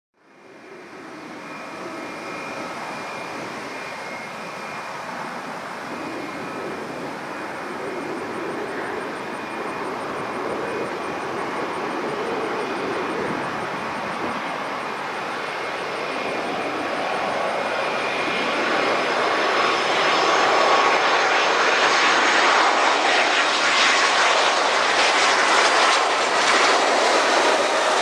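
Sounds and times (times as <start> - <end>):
jet engines roaring: 0.2 - 28.0.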